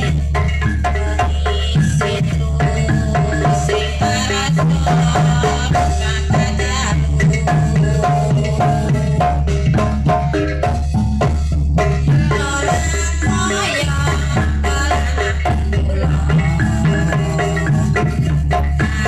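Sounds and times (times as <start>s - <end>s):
drums: 0.0s - 19.0s
gamelan music: 0.0s - 19.0s
low bass: 0.0s - 19.0s.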